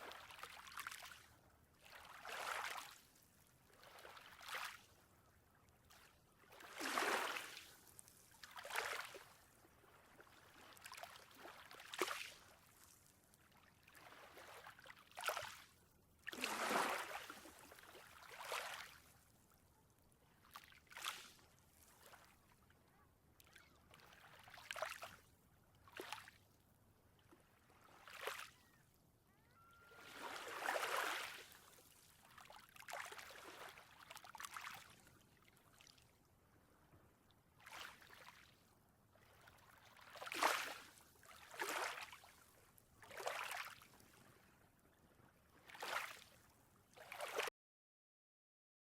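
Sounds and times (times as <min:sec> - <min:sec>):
small ocean waves lapping: 0:00.0 - 0:05.1, 0:05.8 - 0:19.3, 0:20.3 - 0:22.7, 0:23.4 - 0:26.4, 0:27.2 - 0:28.8, 0:29.9 - 0:47.5.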